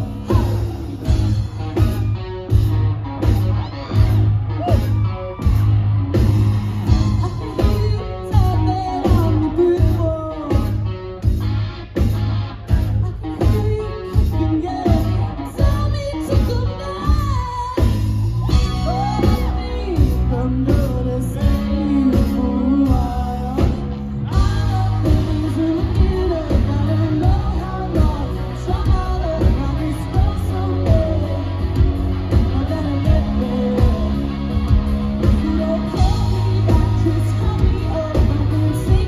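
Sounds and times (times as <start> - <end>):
woman singing lead vocal: 0.0 - 1.2, 6.9 - 11.0, 12.9 - 39.0
live rock band playing: 0.0 - 39.0.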